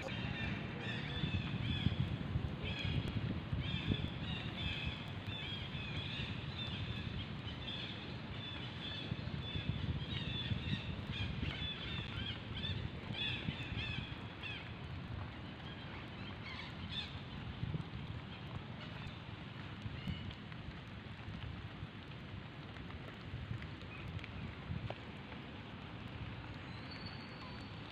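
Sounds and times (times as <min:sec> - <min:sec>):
low outdoor rumble: 0:00.0 - 0:27.9.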